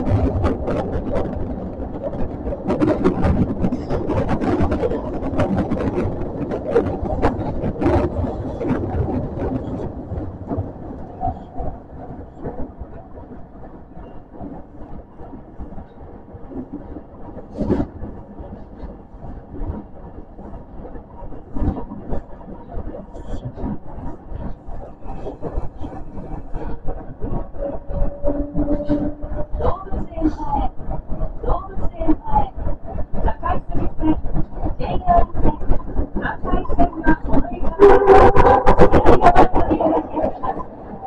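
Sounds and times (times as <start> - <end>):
subway train wheels rattling on rails: 0.0 - 41.0.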